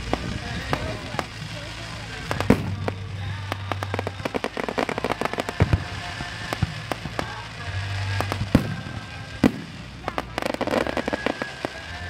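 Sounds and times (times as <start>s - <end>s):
fireworks crackling pops: 0.0s - 12.0s
heavy firework bangs: 0.0s - 12.0s.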